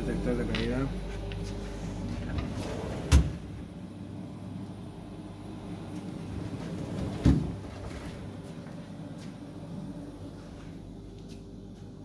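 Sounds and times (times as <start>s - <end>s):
refrigeration hum: 0.0s - 12.0s.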